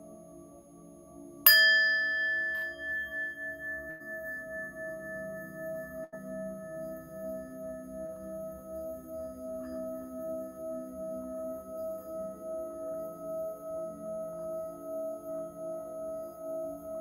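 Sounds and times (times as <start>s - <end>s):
singing bowl ringing: 1.4s - 17.0s.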